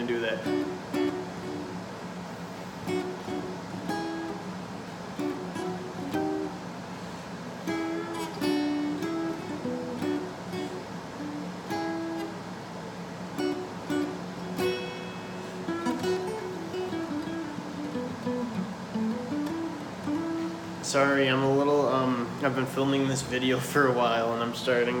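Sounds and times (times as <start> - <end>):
acoustic guitar picked riff: 0.0 - 23.2.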